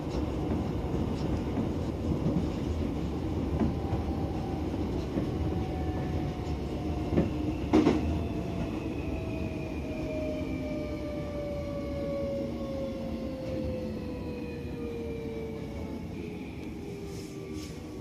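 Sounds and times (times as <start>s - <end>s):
train interior rumble: 0.0s - 18.0s.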